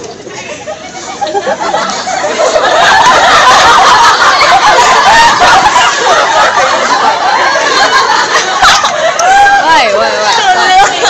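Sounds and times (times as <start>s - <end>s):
high voices chattering: 0.0s - 11.0s.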